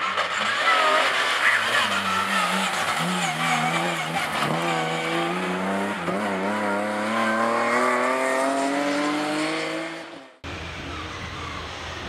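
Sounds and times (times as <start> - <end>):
car engine revving at full throttle: 0.2 - 12.0.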